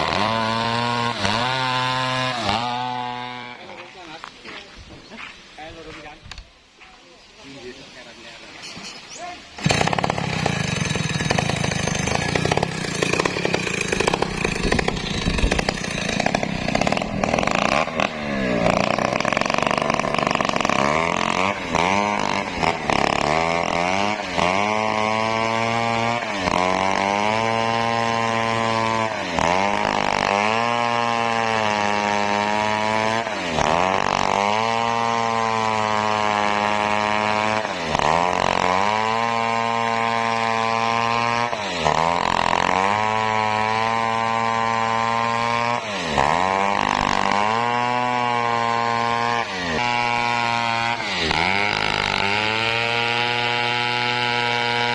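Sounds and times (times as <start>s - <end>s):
chainsaw cutting wood: 0.0s - 4.3s, 8.6s - 54.9s.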